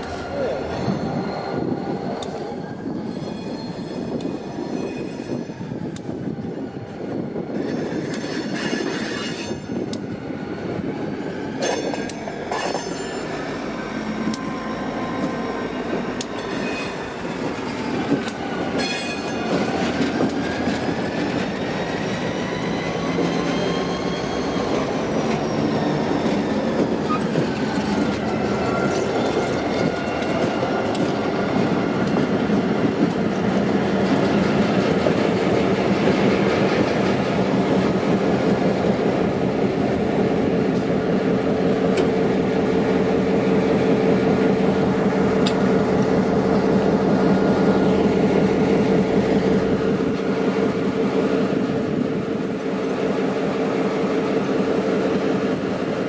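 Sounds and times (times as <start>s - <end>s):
diesel locomotive rumble: 5.4s - 56.0s.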